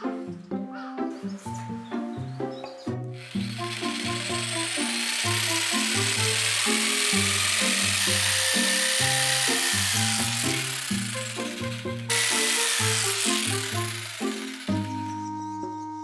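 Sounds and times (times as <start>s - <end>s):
power tool whining: 2.4s - 15.6s.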